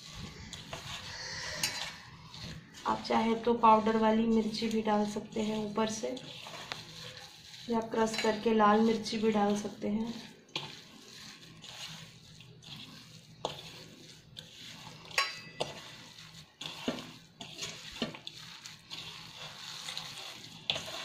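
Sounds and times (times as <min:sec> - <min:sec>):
hand mixing in steel bowl: 0:00.0 - 0:21.0.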